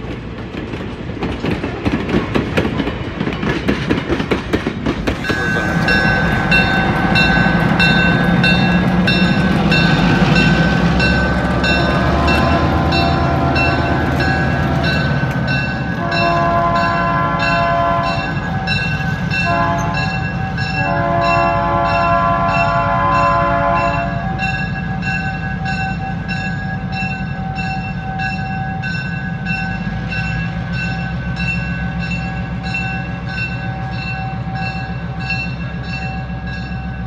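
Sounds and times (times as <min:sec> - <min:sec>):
diesel locomotive engine hum: 0:00.0 - 0:37.0
train wheels clickety-clack: 0:00.0 - 0:37.0
locomotive bell ringing: 0:05.2 - 0:37.0.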